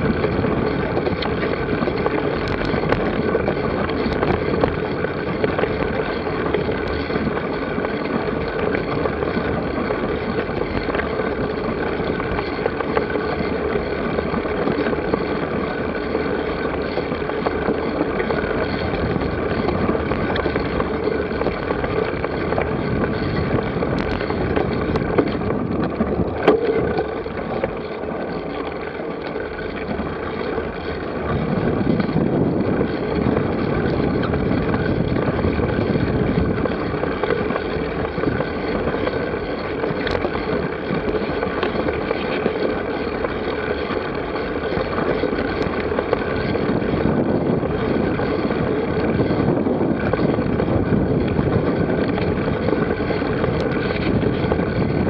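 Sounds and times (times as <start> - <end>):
bike rolling noise: 0.0 - 55.0
wind over microphone: 0.0 - 55.0.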